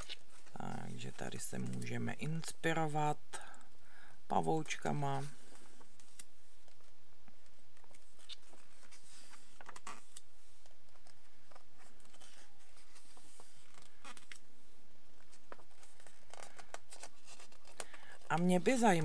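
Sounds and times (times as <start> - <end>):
paper pages rustling: 0.0 - 2.1, 5.2 - 14.5, 15.1 - 19.0.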